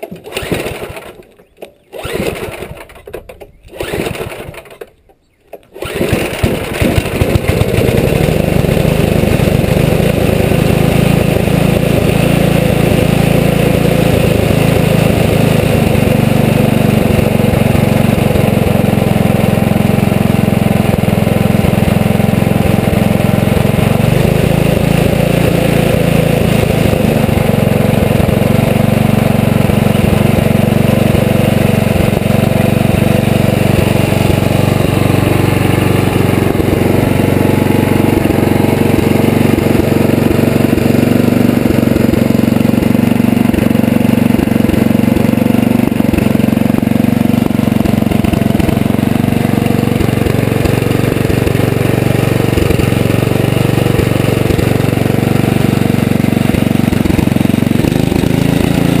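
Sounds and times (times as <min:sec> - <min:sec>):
small engine running loudly: 0:00.0 - 0:04.9, 0:05.7 - 0:59.0.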